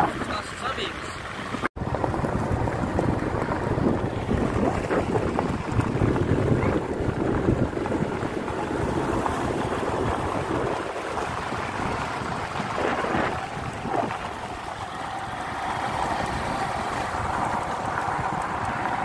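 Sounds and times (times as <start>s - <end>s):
wind rushing over microphone: 0.0s - 19.0s
motorcycle engine running: 1.2s - 19.0s.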